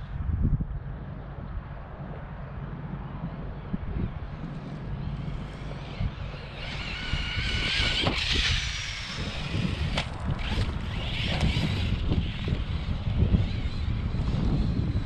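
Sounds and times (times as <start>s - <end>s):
wind rumble on microphone: 0.0s - 15.0s
high-pitched electric motor whine: 2.1s - 15.0s.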